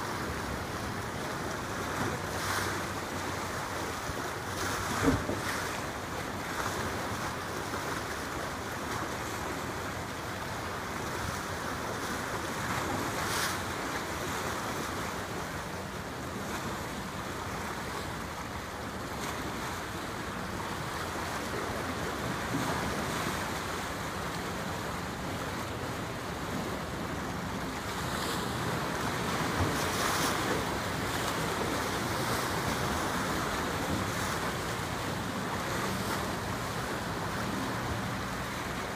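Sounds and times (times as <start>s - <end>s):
water washing along ship hull: 0.0s - 38.9s.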